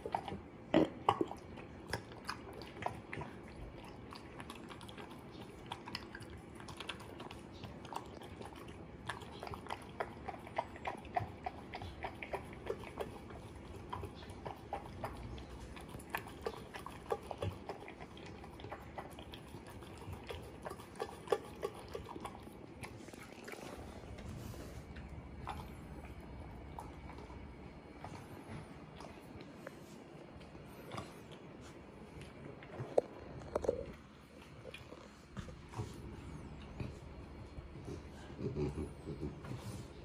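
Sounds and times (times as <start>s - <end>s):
dog chewing and lapping: 0.0s - 40.0s.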